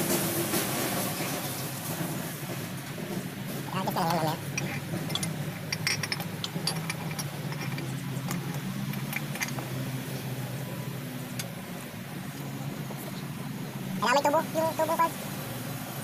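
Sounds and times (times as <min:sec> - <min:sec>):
diesel engine idling: 0:01.6 - 0:16.0.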